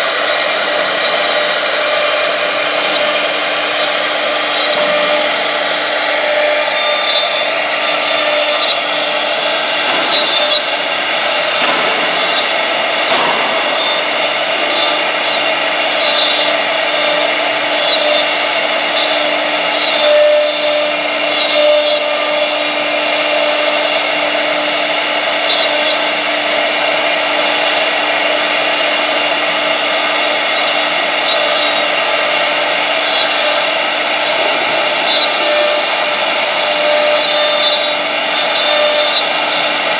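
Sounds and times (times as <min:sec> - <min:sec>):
bit cutting wood: 0:00.0 - 0:39.9
cnc router whirring whine: 0:00.0 - 0:39.9.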